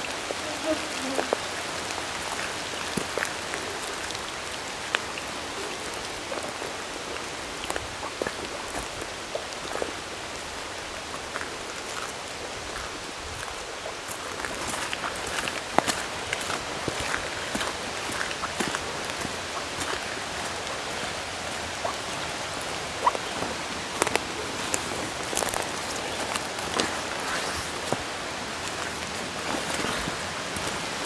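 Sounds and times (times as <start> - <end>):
water drops pattering on pool: 0.2 - 31.0.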